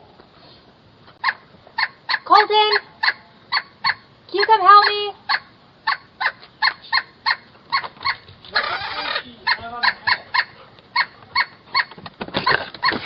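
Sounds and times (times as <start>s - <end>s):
young woodpecker calling: 1.2s - 12.0s.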